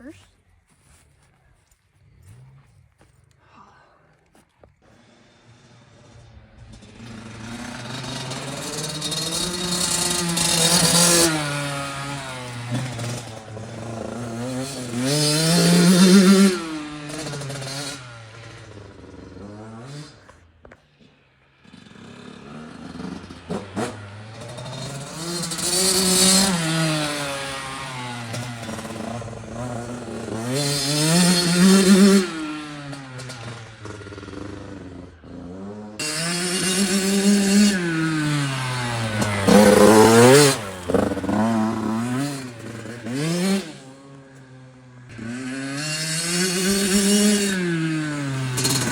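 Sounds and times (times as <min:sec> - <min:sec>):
dirt bike engine revving: 0:04.8 - 0:48.9.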